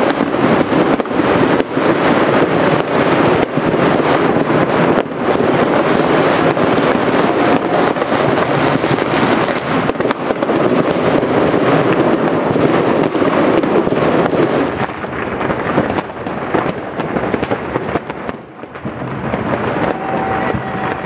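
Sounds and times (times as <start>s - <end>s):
fireworks cracks and bangs: 0.0s - 21.0s.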